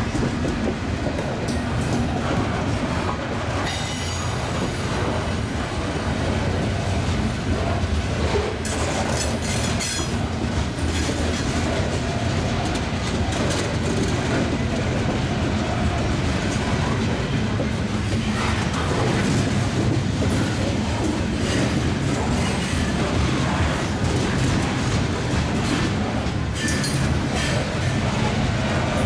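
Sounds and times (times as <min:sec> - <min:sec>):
clickety-clack over rail joints: 0:00.0 - 0:29.0
train wheels rumbling on rails: 0:00.0 - 0:29.0.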